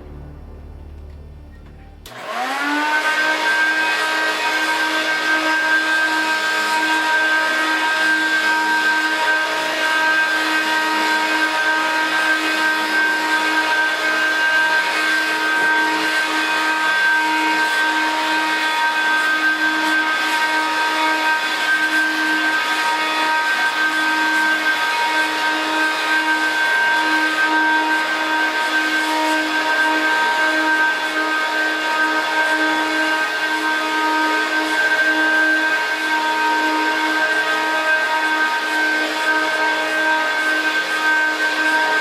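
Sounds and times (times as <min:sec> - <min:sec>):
vacuum cleaner whining: 0:00.0 - 0:42.0.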